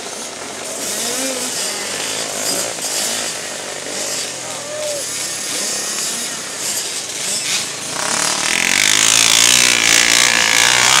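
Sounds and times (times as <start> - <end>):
three-wheeler engine revving: 0.0 - 11.0.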